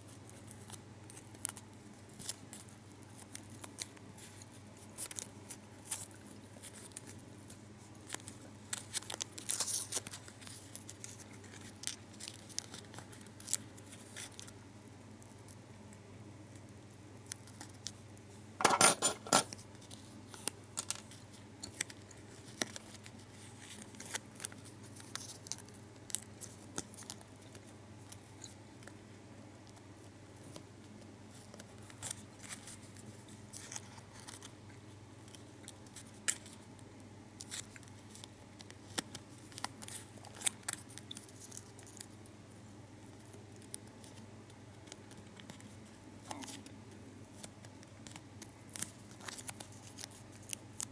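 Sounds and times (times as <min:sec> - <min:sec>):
foil wrapper crinkling: 0:00.1 - 0:14.6, 0:19.3 - 0:29.0, 0:29.7 - 0:34.6, 0:37.4 - 0:42.4, 0:43.1 - 0:50.9.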